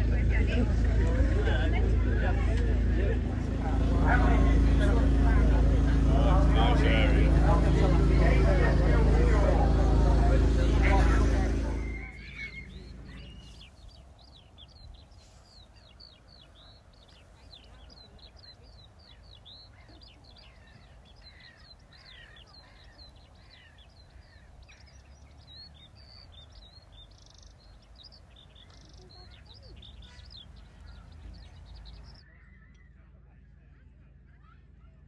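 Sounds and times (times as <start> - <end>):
birds chirping rapidly: 0.0 - 35.0
faint low rumble: 0.0 - 35.0
lower bird calls: 3.6 - 33.0.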